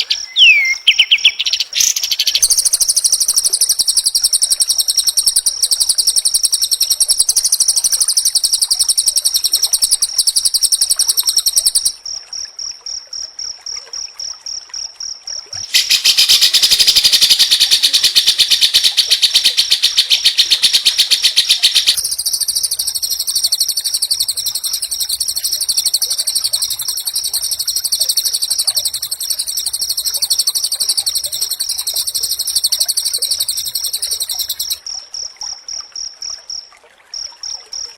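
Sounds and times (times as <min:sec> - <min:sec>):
bird singing rapid trills: 0:00.0 - 0:11.9, 0:15.7 - 0:34.8.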